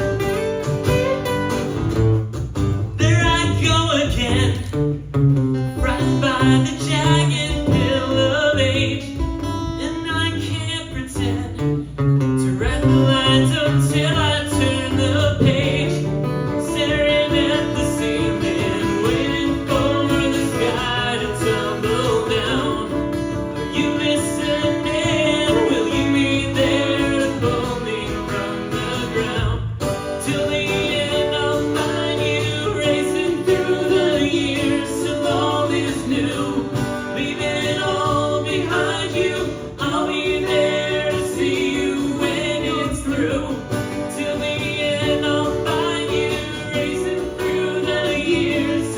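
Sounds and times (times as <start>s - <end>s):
acoustic guitar: 0.0s - 48.9s
person singing: 5.8s - 11.8s, 12.4s - 48.9s.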